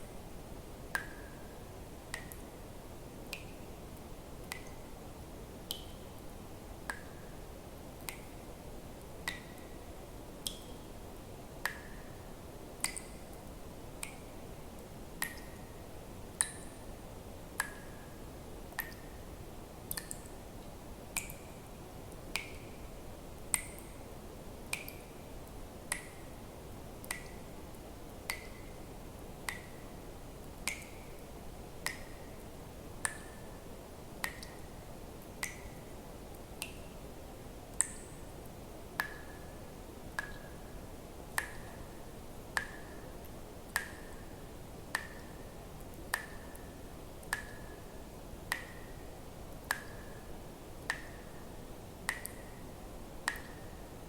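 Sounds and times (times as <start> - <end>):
faint steady hiss: 0.0 - 54.0
water dripping: 0.8 - 54.0.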